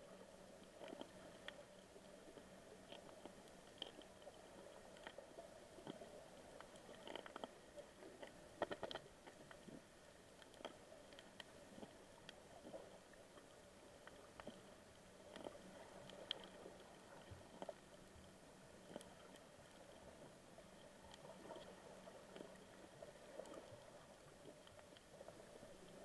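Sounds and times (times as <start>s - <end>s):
low underwater hiss: 0.0s - 26.0s
underwater clicks and crackles: 0.0s - 26.0s.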